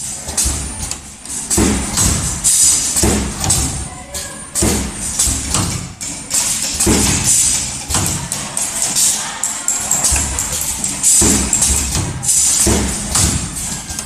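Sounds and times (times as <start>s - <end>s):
bending machine thumps: 0.1s - 3.9s, 4.5s - 9.1s, 9.7s - 14.0s.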